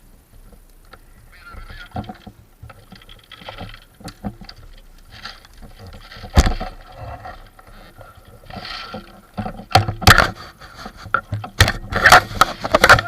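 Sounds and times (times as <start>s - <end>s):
rustling through undergrowth: 0.0s - 13.0s.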